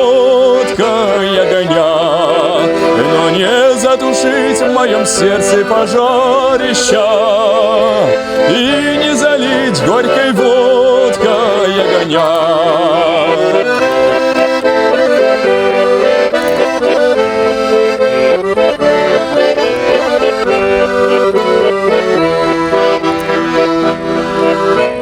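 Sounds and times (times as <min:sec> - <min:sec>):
button accordion playing: 0:00.0 - 0:25.0.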